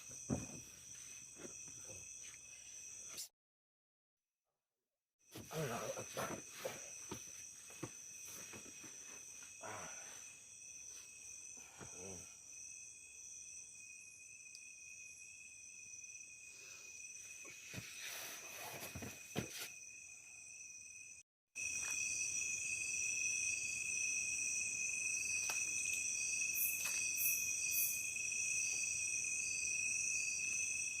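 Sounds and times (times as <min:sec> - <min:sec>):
insect chorus trilling: 0:00.0 - 0:03.2, 0:05.3 - 0:31.0.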